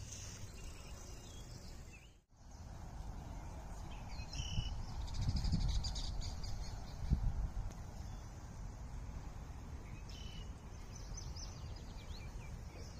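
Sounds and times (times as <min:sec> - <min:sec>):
birds calling: 0:00.0 - 0:12.9
low outdoor rumble: 0:02.3 - 0:12.9.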